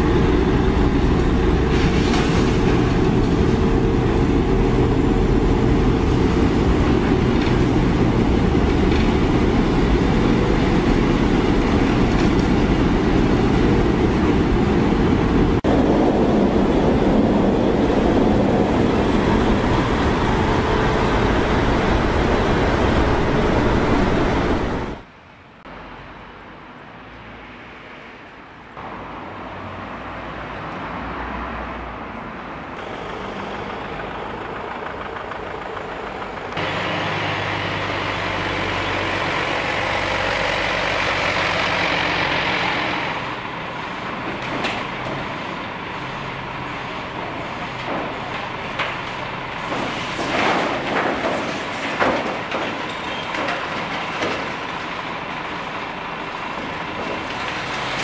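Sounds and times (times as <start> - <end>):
heavy truck engines: 0.0 - 58.0
road traffic noise: 0.0 - 58.0.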